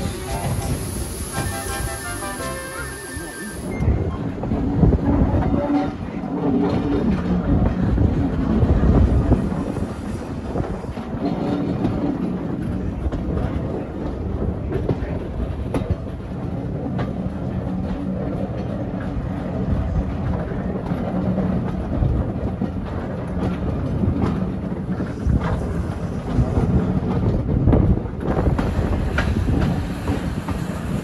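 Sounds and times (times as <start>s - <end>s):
train wheels rumbling on rails: 0.0s - 31.0s
wheels clicking over rail joints: 4.5s - 31.0s.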